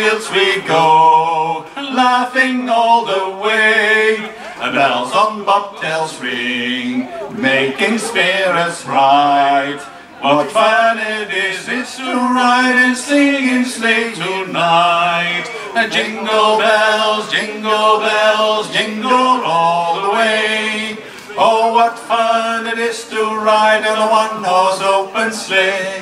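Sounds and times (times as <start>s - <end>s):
two men singing: 0.0s - 26.0s.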